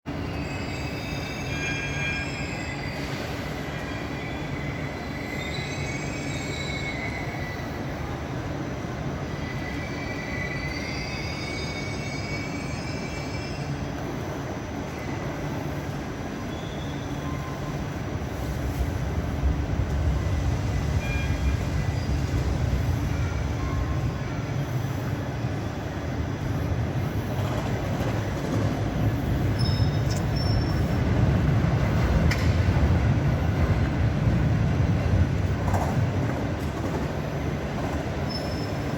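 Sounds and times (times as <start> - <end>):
passing train rumble: 0.0 - 38.9
tram wheels squealing: 0.1 - 38.9.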